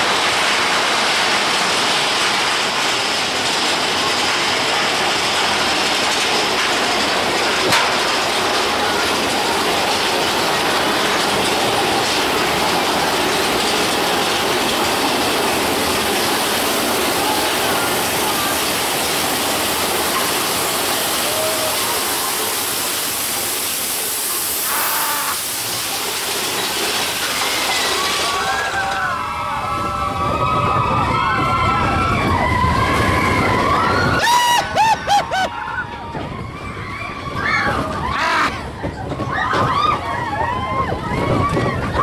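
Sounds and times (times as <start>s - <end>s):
roller coaster rumbling on track: 0.0s - 42.0s.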